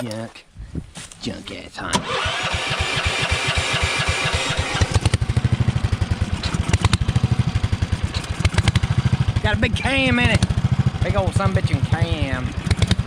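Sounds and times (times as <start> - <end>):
engine loping idle: 2.0 - 13.0.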